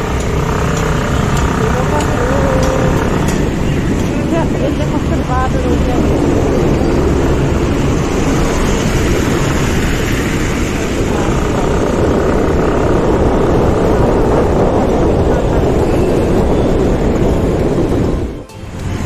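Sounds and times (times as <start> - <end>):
motorcycle engine running: 0.0 - 19.0
wind rushing on microphone: 0.0 - 19.0.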